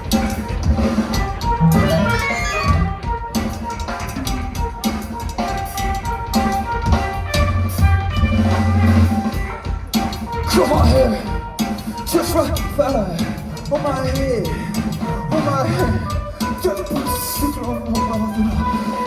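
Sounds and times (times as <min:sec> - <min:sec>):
kit drums beat: 0:00.0 - 0:19.0
live band playing: 0:00.0 - 0:19.0.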